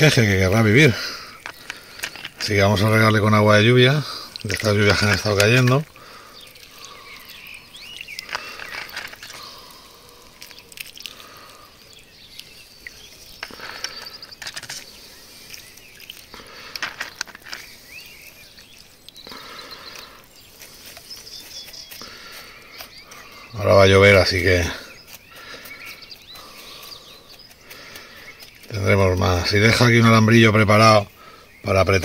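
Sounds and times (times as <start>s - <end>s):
birds chirping faintly: 0.0s - 32.0s
water trickling onto gravel: 0.0s - 32.0s.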